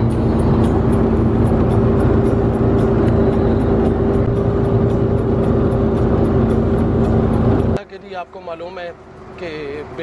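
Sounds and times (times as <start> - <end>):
vehicle engine and road noise: 0.0 - 10.0.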